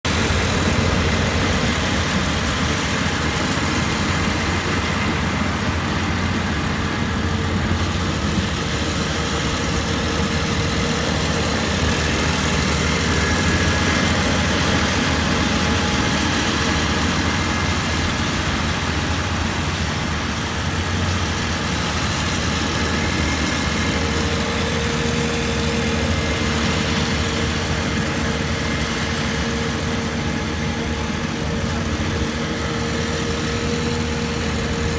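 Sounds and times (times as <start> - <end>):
combine harvester drone: 0.0 - 34.9.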